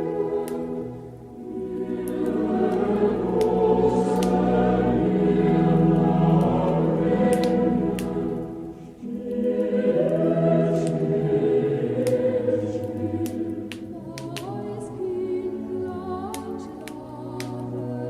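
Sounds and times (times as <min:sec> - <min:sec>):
choir singing slow song: 0:00.0 - 0:18.0
wood fire crackles: 0:00.0 - 0:18.0.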